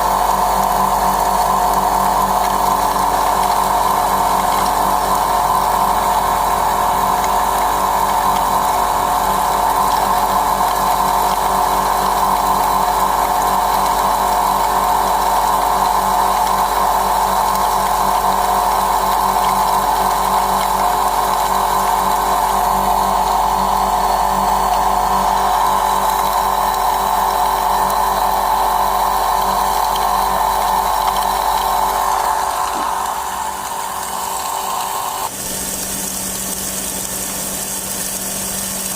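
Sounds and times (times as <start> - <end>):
electric mill grinding: 0.0 - 38.9.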